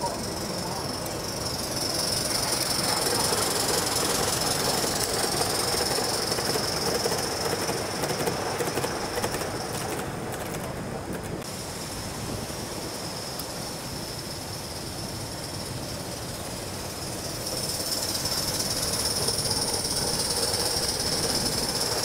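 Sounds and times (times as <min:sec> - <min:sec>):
model train wheels rushing on rail: 0:00.0 - 0:22.0.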